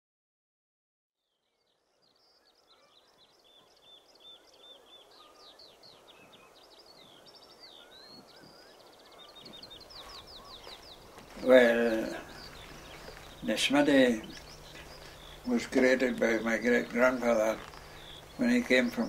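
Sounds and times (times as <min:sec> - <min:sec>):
birds singing: 0:01.3 - 0:19.0
faint outdoor rush: 0:02.1 - 0:19.0.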